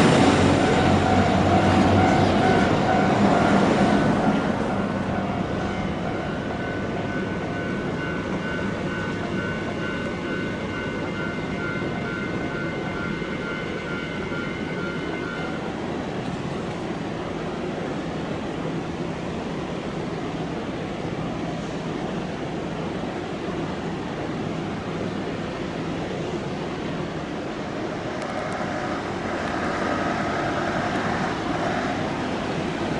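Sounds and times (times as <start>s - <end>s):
steady background noise: 0.0s - 32.9s.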